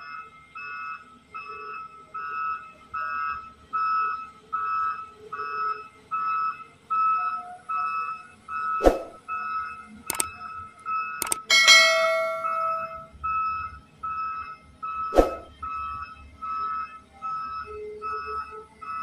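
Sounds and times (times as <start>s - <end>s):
excavator warning alarm beeping: 0.0s - 19.0s.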